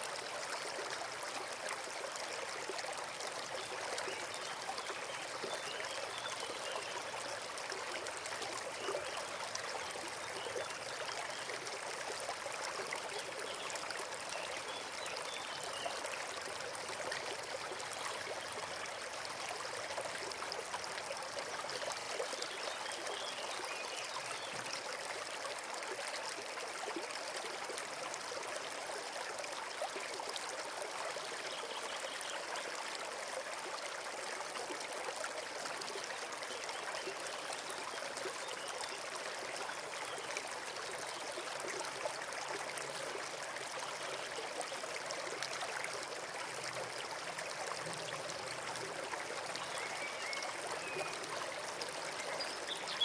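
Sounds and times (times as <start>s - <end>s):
forest brook trickling: 0.0s - 53.0s.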